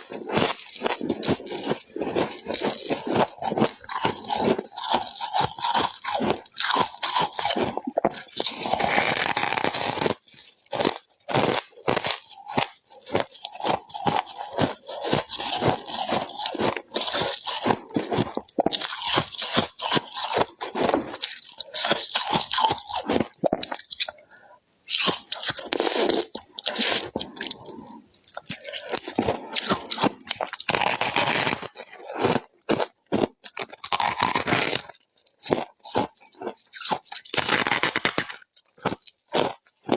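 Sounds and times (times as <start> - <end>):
crunching ice: 0.0 - 24.1, 25.0 - 39.9.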